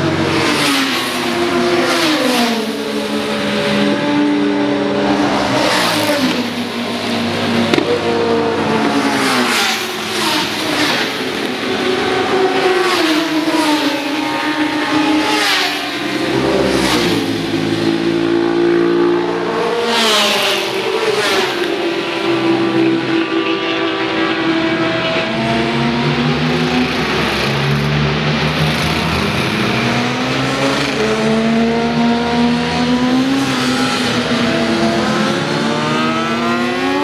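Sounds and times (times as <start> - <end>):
motorcycles passing with race exhausts: 0.0 - 37.0.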